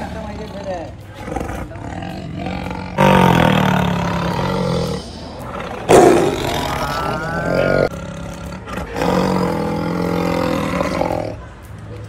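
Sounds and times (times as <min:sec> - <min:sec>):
tiger roaring: 0:00.0 - 0:11.4.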